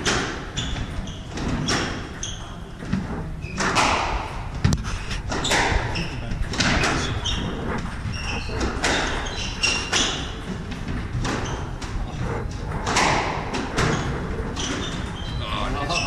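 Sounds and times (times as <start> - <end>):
shoes squeaking on wooden floor: 0.0 - 16.0.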